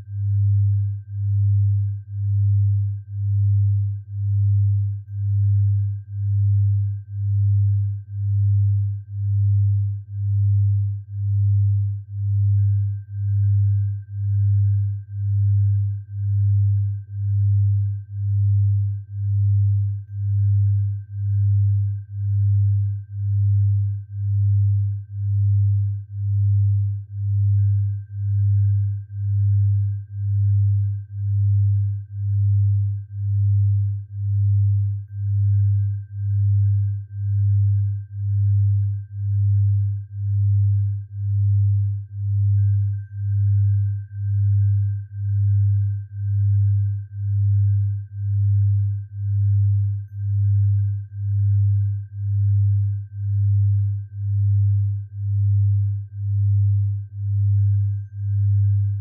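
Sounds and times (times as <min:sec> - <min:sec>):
faint steady high tone: 0:00.0 - 0:59.0
pulsing low sine tone: 0:00.0 - 0:59.0.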